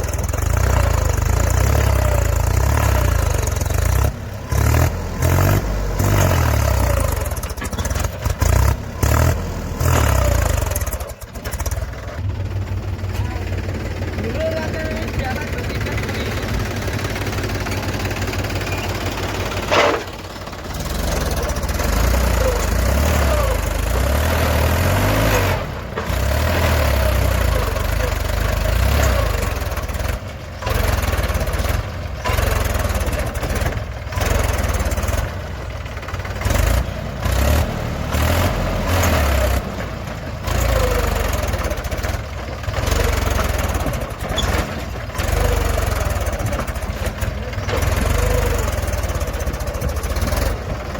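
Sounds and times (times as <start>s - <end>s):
heavy diesel engine revving: 0.0s - 50.9s.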